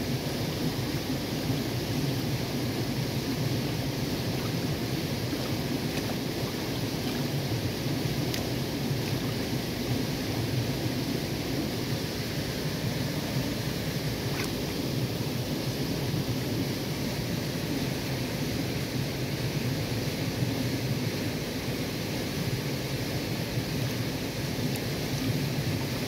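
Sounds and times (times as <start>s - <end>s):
stream running over stones: 0.1s - 26.0s.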